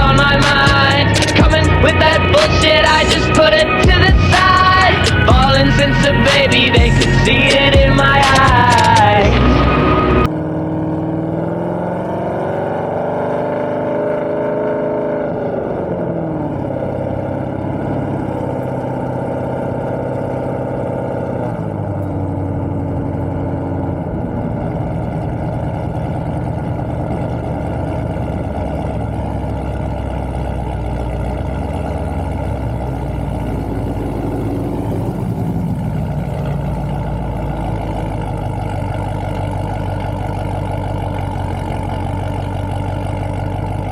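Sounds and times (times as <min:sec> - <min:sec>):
car engine running: 0:00.0 - 0:43.9.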